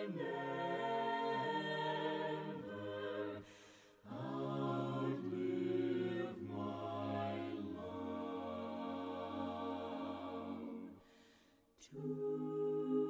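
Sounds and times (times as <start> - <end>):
a cappella voices singing: 0.0 - 13.0.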